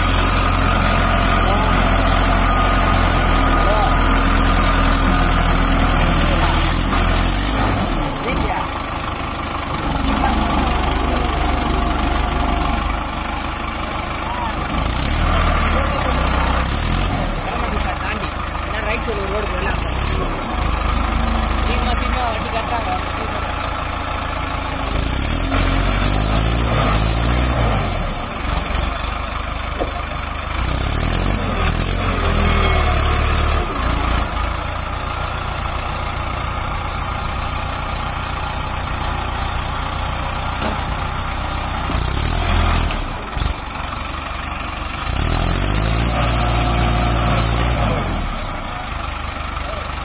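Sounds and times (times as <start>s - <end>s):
tractor diesel engine revving: 0.0s - 50.0s.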